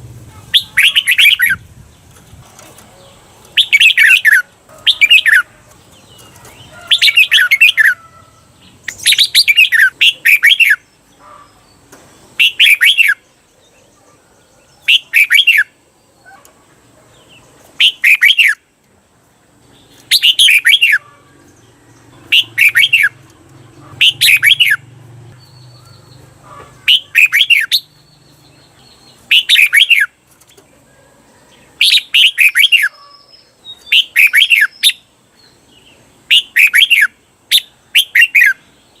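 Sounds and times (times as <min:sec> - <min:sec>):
bulbul singing: 0:00.0 - 0:18.7, 0:19.6 - 0:30.7, 0:31.5 - 0:39.0.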